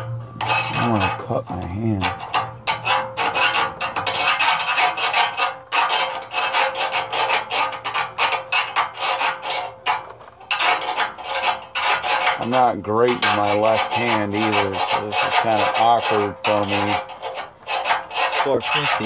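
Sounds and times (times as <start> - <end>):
hand file rasping on metal: 0.0 - 19.0.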